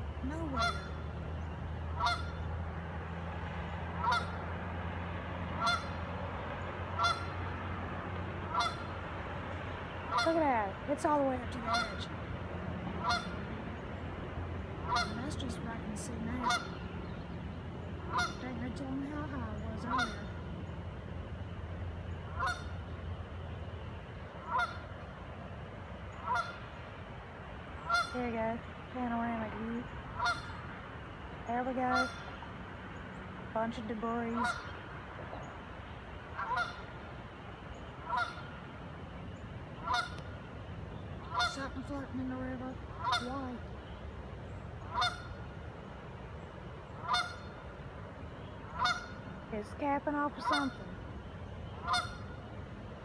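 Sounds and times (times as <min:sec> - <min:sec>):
geese honking: 0:00.0 - 0:04.8, 0:05.4 - 0:14.0, 0:14.7 - 0:17.0, 0:18.0 - 0:21.0, 0:22.0 - 0:25.3, 0:26.1 - 0:28.7, 0:29.3 - 0:43.8, 0:44.6 - 0:45.7, 0:46.7 - 0:52.7
steady low rumble: 0:00.0 - 0:53.0.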